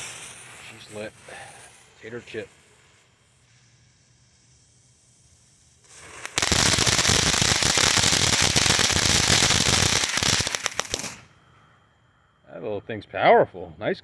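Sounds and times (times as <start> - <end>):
firework fizz: 0.0 - 11.3
firework fountain crackling: 0.0 - 11.3.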